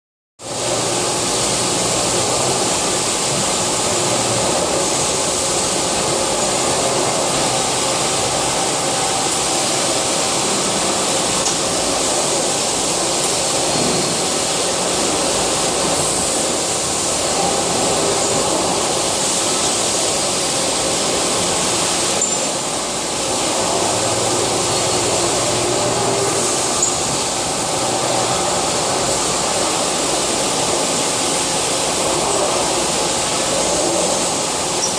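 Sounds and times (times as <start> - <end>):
lathe whirring hiss: 0.4 - 34.9.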